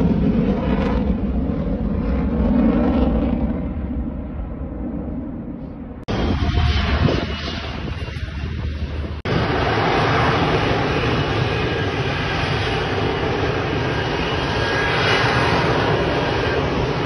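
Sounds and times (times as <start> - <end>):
fighter jet engine rumble: 0.0 - 17.0.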